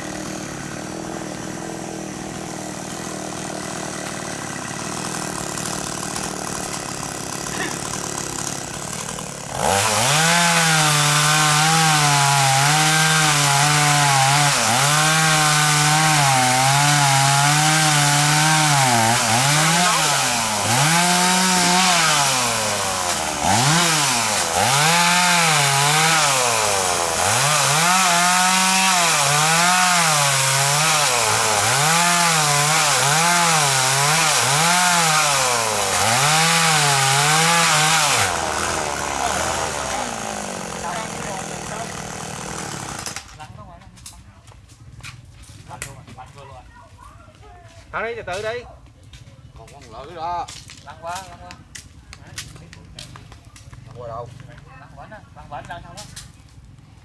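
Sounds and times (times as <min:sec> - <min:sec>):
chainsaw cutting tree trunk: 0:00.0 - 0:44.0, 0:49.8 - 0:54.7.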